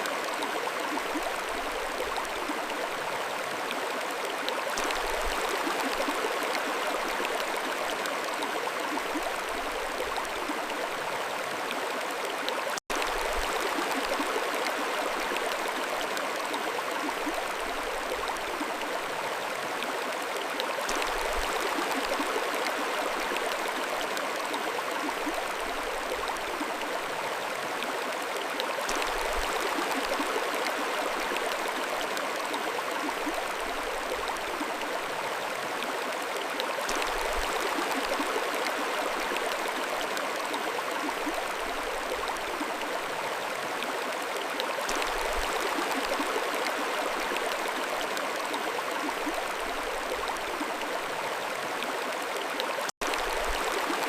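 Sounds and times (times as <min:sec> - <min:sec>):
mountain stream flowing: 0:00.0 - 0:54.0.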